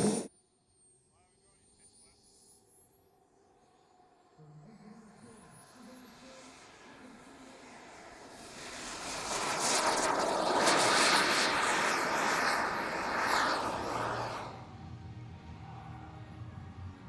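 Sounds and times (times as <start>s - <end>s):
model jet turbine whine: 0.0s - 17.0s.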